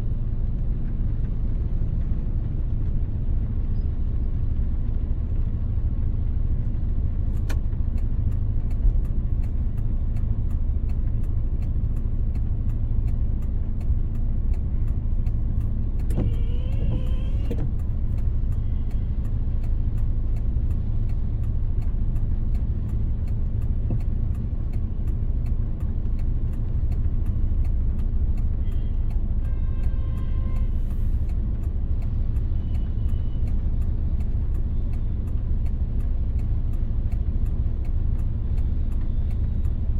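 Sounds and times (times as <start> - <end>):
car engine and road rumble: 0.0 - 39.9
light even ticking: 0.0 - 39.9.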